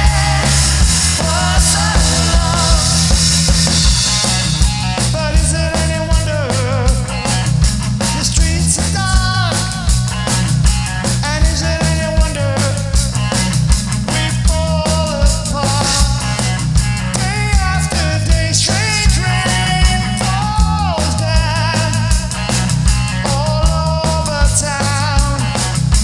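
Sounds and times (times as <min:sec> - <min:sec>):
bending lead melody: 0:00.0 - 0:23.6
bass guitar: 0:00.0 - 0:26.0
drum kit beat: 0:00.0 - 0:26.0.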